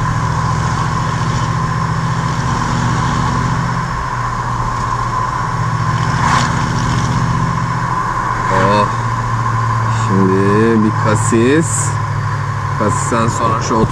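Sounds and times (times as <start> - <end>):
car engine running: 0.0 - 13.9
road and wind hum: 0.0 - 13.9.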